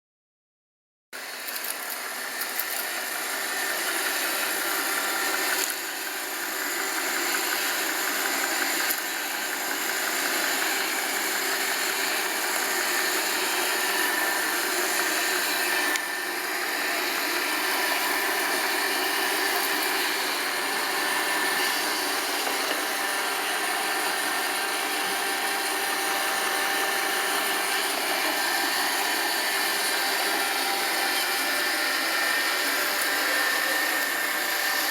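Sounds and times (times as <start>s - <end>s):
robot vacuum whirring: 1.2s - 34.9s.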